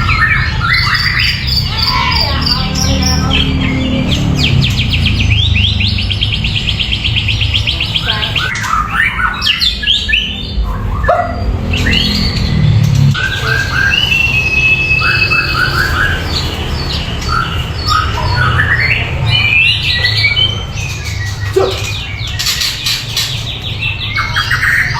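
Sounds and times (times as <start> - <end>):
songbird singing whistles and trills: 0.0 - 24.9.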